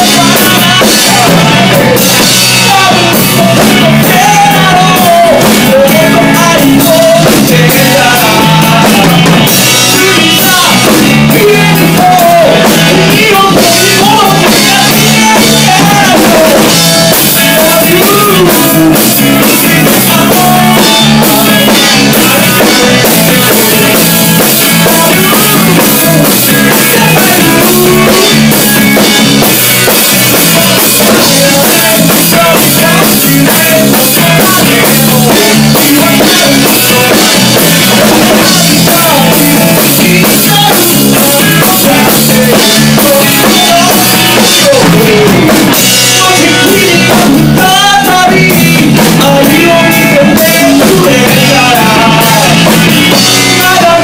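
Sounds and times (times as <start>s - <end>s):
bass guitar: 0.0s - 54.0s
drum kit: 0.0s - 54.0s
electric guitars: 0.0s - 54.0s
person singing: 0.0s - 54.0s.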